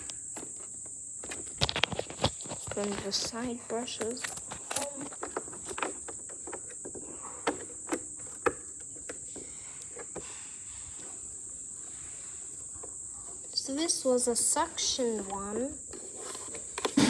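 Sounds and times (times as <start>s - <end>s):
plastic parts clicking: 1.2s - 17.0s.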